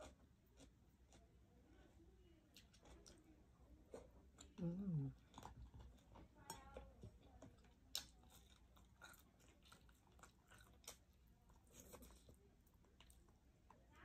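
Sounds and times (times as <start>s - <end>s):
person chewing with mouth smacks: 0.0s - 3.3s, 3.9s - 13.8s.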